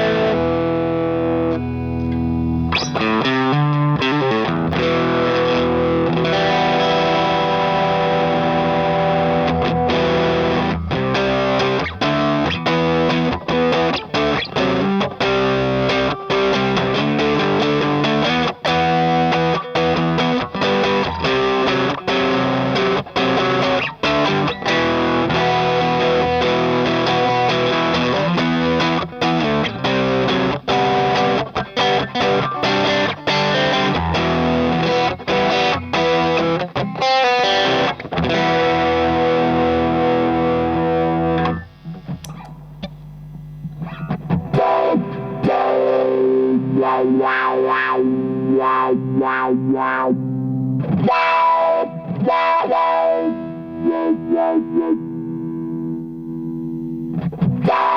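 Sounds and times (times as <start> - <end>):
overdriven electric guitar chords: 0.0 - 57.9.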